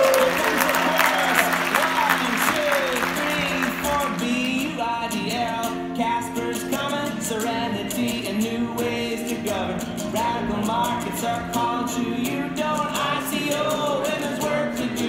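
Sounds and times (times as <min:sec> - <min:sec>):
backup singers: 0:00.0 - 0:15.0
guitar: 0:00.0 - 0:15.0
man singing: 0:00.0 - 0:15.0.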